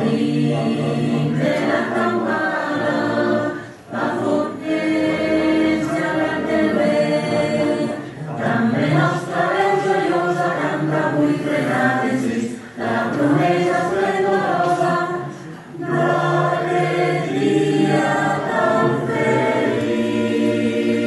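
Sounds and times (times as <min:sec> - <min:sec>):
choir singing through speakers: 0:00.0 - 0:21.0.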